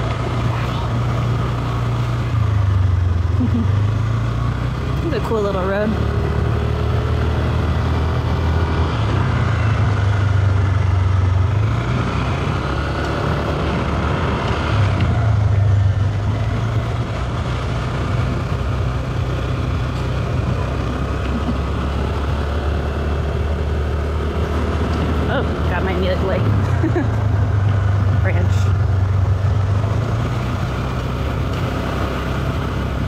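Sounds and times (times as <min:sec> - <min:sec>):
motor scooter engine running: 0:00.0 - 0:33.0.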